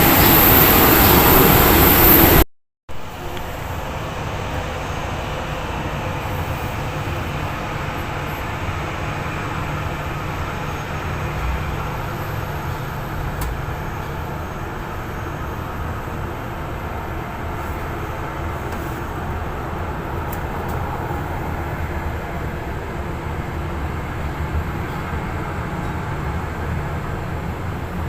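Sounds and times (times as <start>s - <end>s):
aircraft engines rumbling: 0.0s - 28.0s
rushing noise: 0.0s - 28.0s.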